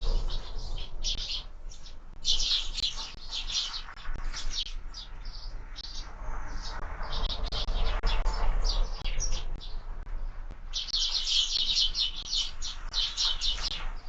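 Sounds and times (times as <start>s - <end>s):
sparrows chirping: 0.0s - 14.0s
steady low hum: 0.0s - 14.0s.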